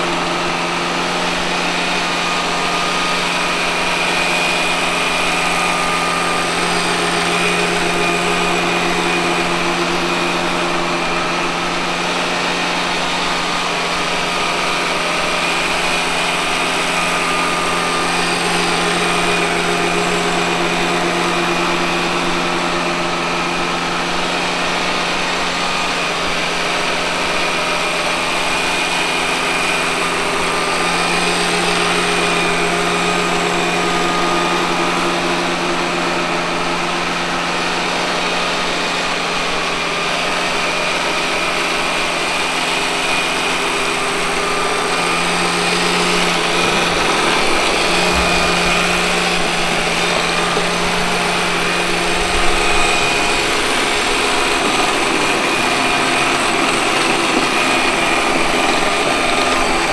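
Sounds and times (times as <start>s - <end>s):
robot vacuum cleaner running: 0.0s - 59.9s.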